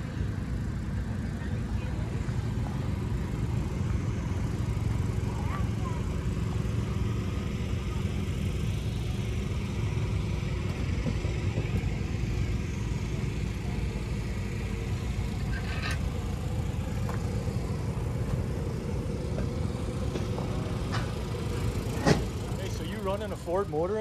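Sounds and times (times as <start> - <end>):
race car engines rumbling: 0.0 - 24.0.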